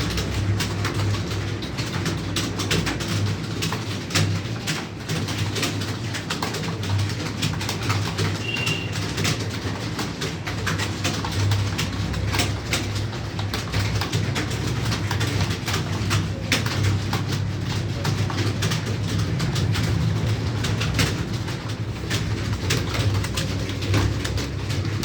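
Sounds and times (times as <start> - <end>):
computer keyboard typing: 0.0 - 25.0.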